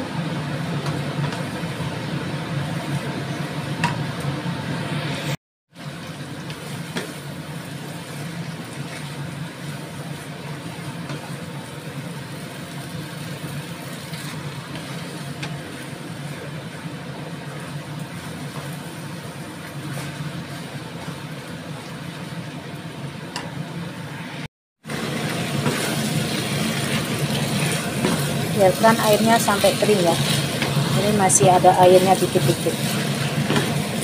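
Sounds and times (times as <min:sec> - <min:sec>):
low mechanical hum: 0:00.0 - 0:34.0
noodles frying hiss: 0:05.8 - 0:34.0.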